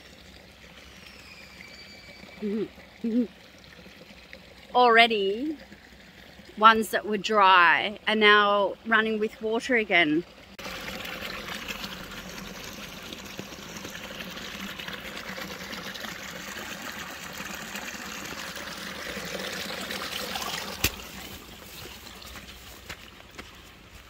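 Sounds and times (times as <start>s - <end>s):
stream trickling through grass: 0.0s - 24.0s.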